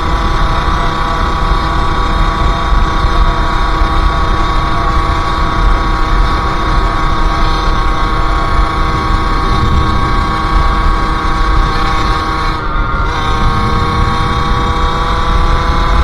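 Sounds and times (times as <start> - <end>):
two-stroke engine running: 0.0 - 16.0.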